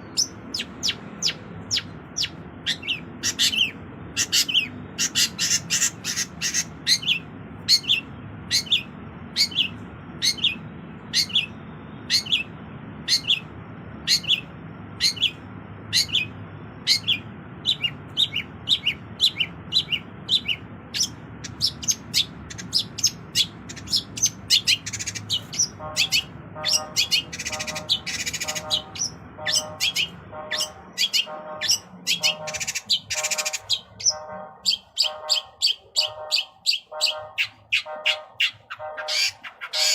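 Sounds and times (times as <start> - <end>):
bird harsh rasping phrases: 0.0 - 11.6, 15.1 - 39.9.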